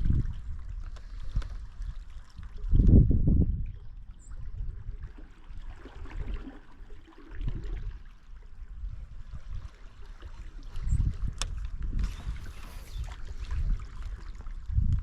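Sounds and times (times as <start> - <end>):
water lapping against a hull: 0.0 - 15.0.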